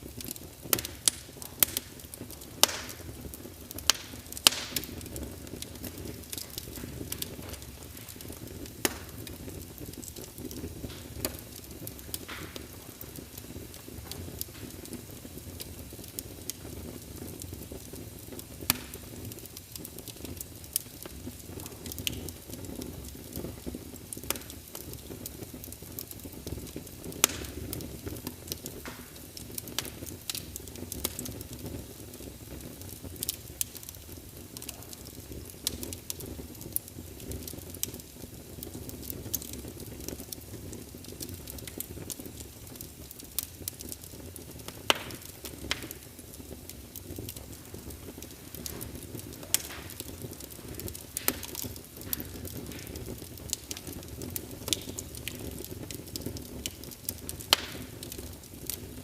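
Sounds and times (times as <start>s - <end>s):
log fire crackling: 0.0s - 59.0s.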